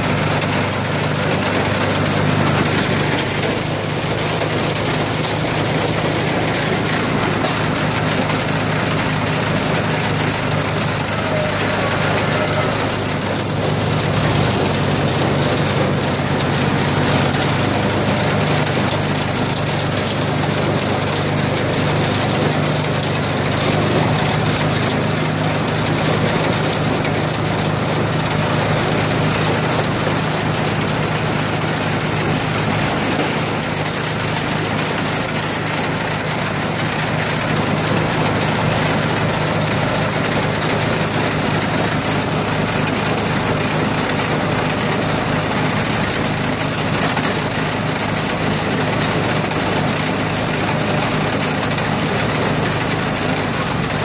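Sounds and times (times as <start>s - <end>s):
hydraulic power unit running: 0.0s - 54.0s
tractor diesel engine running: 0.0s - 54.0s.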